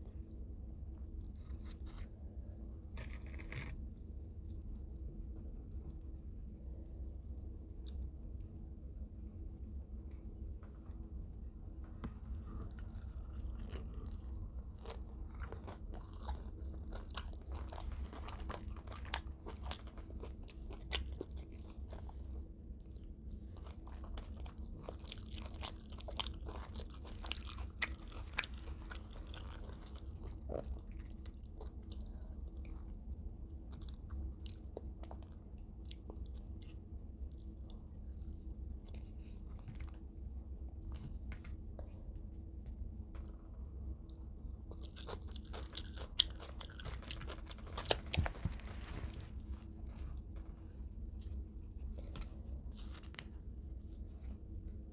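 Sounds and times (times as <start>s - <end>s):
low hum: 0.0s - 54.9s
chewing crispy fried chicken: 1.1s - 6.4s, 7.2s - 11.0s, 11.6s - 54.9s.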